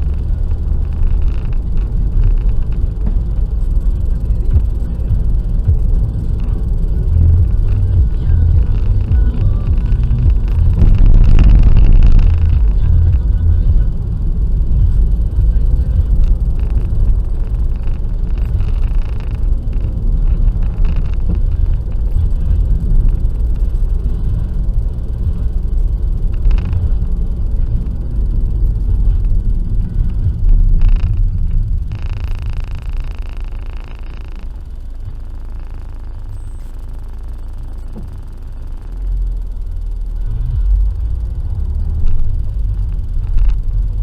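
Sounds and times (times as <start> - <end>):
car driving on motorway: 0.0 - 44.0.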